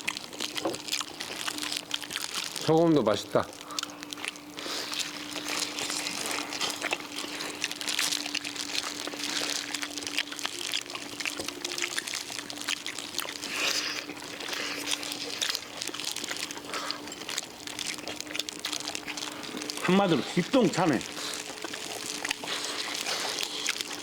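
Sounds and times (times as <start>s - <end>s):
crunching and chewing: 0.0s - 24.0s
faint steady hum: 0.0s - 24.0s
plastic gloves crinkling: 0.0s - 24.0s.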